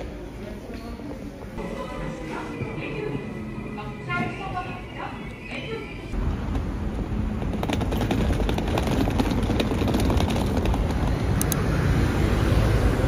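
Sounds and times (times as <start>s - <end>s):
cars and buses passing: 1.5s - 13.0s.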